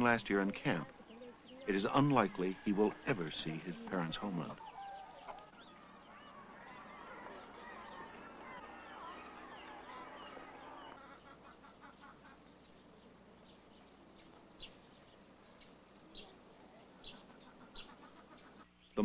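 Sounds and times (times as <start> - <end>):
poultry honking and calling: 0.0 - 18.8.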